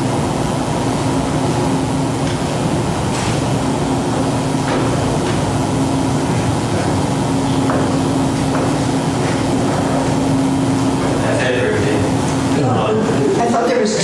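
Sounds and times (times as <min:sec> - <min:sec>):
room hum with low tone: 0:00.0 - 0:14.0.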